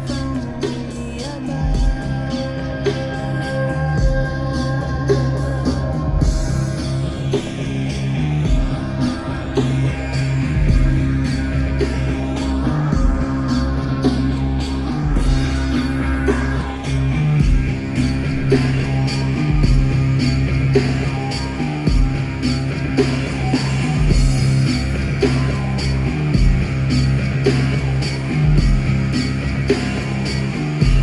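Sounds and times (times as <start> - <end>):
music with steady beat and bass: 0.0 - 31.0.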